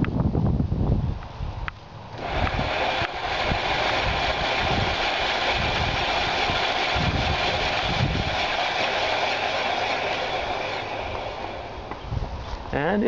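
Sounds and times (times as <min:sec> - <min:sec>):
electric motor whirring: 0:02.1 - 0:12.7
low uneven rumbling: 0:02.2 - 0:13.0.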